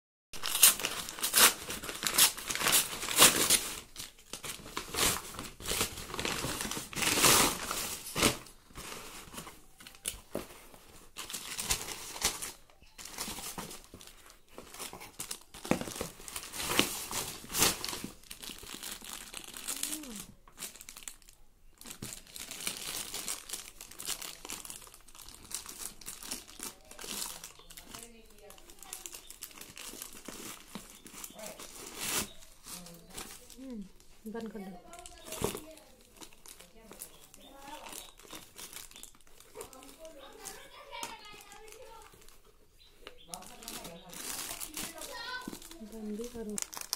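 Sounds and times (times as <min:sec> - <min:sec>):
plastic bag tearing: 0:00.4 - 0:10.2, 0:11.1 - 0:42.4, 0:43.1 - 0:46.9
tissue paper and plastic rustling: 0:00.4 - 0:46.9.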